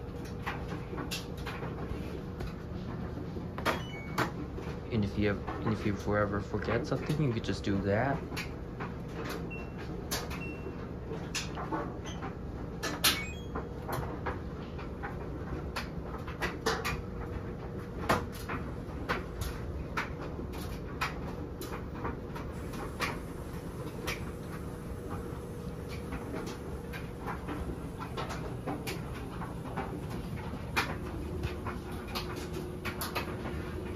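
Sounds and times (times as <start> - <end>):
laundry machine humming: 0.0 - 33.9.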